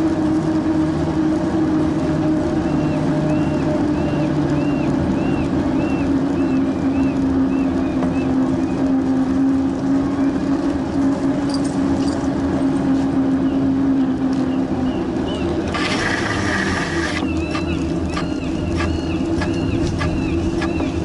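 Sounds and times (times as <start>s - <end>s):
bicycle riding rumble: 0.0s - 21.0s.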